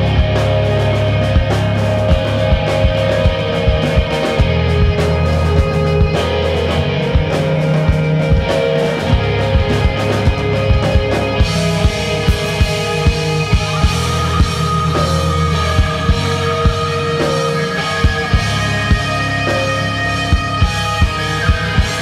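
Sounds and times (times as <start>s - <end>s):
electric guitars sustained notes: 0.0s - 22.0s.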